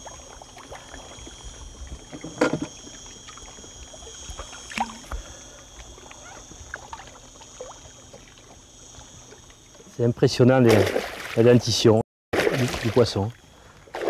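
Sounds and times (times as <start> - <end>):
fish splashing: 0.0 - 9.9, 10.7 - 11.5, 12.4 - 14.0
water sloshing around a boat: 0.0 - 14.0.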